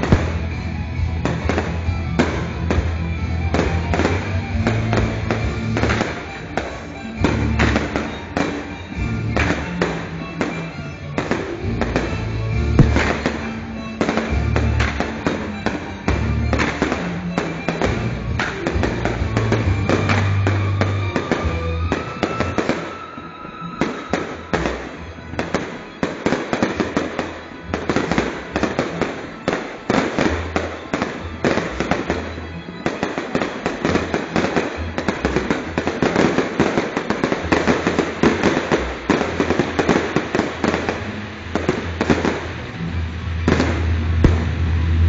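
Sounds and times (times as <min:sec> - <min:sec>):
fireworks crackling and banging: 0:00.0 - 0:45.0
music playing: 0:00.0 - 0:45.0.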